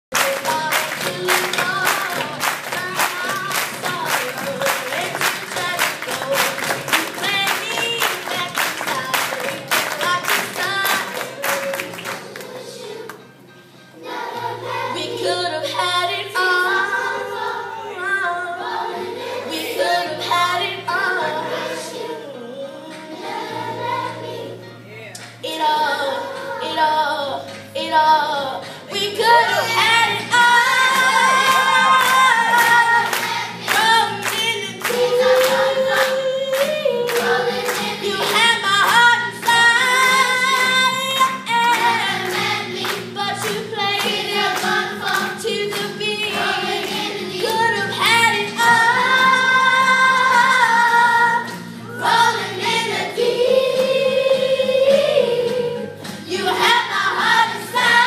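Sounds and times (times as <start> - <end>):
children's choir singing: 0.1 - 24.8, 25.4 - 58.0.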